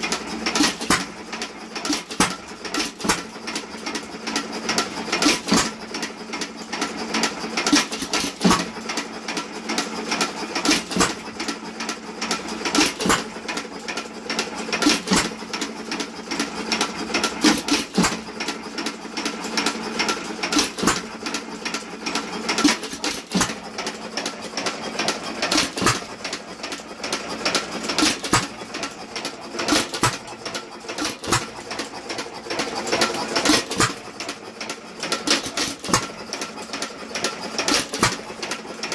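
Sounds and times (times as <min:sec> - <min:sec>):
engine clattering and banging: 0:00.0 - 0:38.9.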